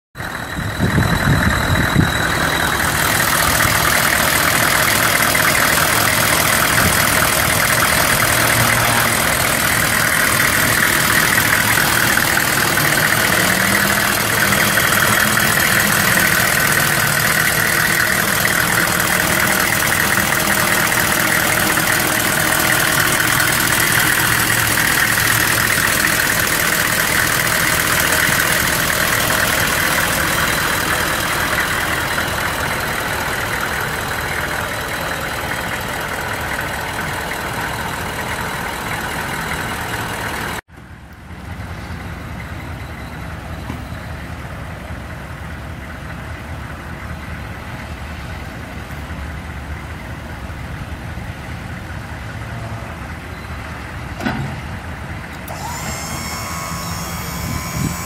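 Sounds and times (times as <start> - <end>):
diesel engine idling: 0.2 - 58.0.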